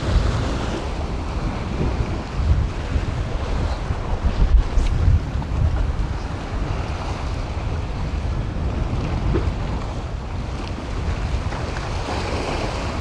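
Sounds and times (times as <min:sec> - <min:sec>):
surf washing in: 0:00.0 - 0:13.0
wind buffeting microphone: 0:00.0 - 0:13.0.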